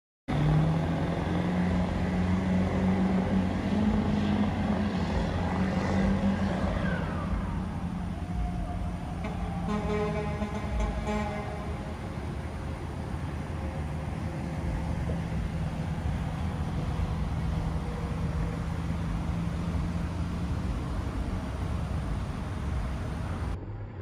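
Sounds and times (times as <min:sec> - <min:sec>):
truck engine revving high: 0:00.3 - 0:23.9.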